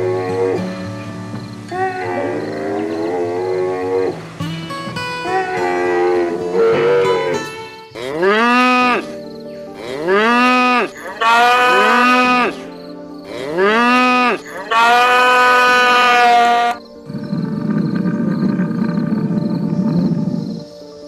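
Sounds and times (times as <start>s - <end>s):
animal calling: 0.0s - 20.8s.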